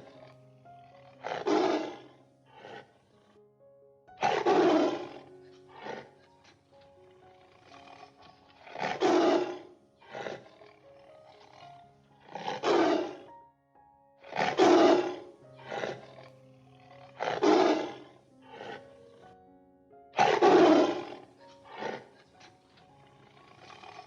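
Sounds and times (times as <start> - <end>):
tiger roaring: 0.0 - 3.3, 4.2 - 13.3, 14.2 - 19.3, 20.2 - 24.0
background music with sustained tones: 0.0 - 24.0.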